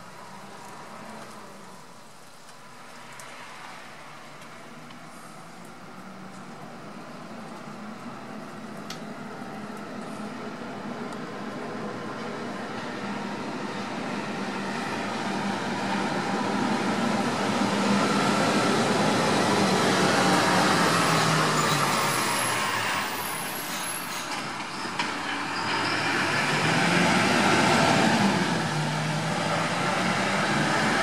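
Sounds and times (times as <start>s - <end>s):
rain: 0.0s - 31.0s
traffic on wet road: 0.0s - 31.0s.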